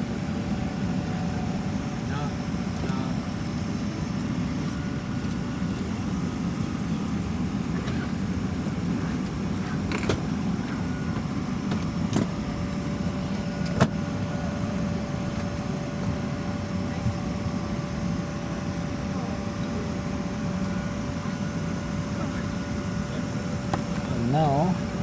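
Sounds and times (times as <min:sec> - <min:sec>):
airplane cabin rumble: 0:00.0 - 0:25.0.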